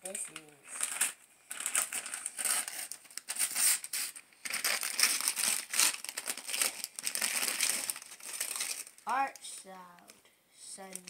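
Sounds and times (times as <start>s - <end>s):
wrapping paper tearing and crinkling: 0.0s - 9.6s.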